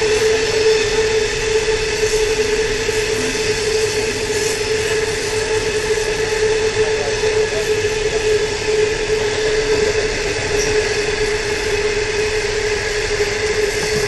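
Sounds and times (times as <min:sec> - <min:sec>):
continuous steady whine: 0:00.0 - 0:14.0
train wagons rolling on rails: 0:00.0 - 0:14.0.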